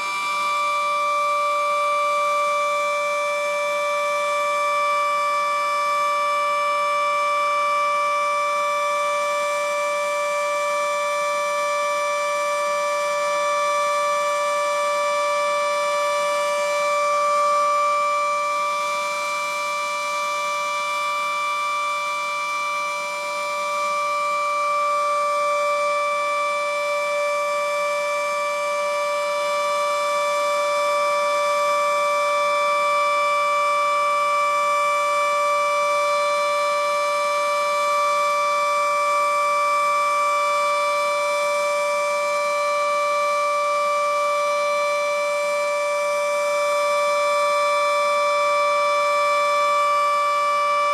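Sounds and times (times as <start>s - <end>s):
civil defense siren steady tone: 0.0s - 50.9s.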